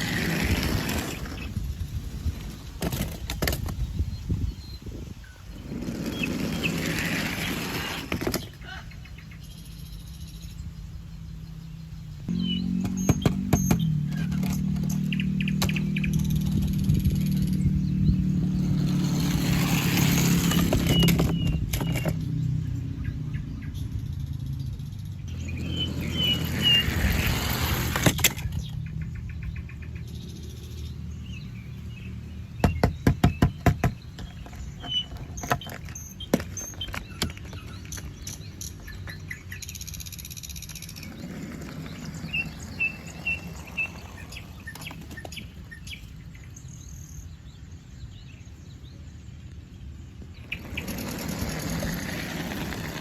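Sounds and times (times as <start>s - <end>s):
passing traffic rumble: 0.0s - 53.0s
small birds chirping: 0.0s - 53.0s.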